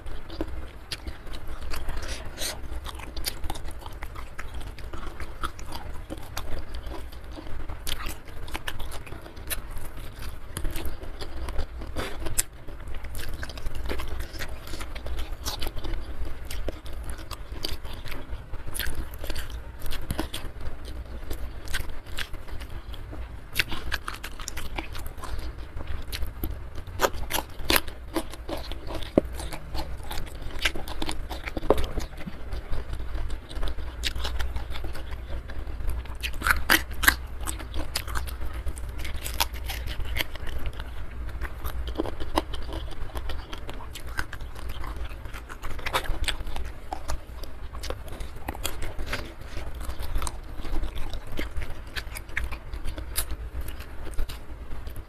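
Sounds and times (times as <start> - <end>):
person chewing crunchy food: 0.0 - 55.0
steady low hum: 0.0 - 55.0.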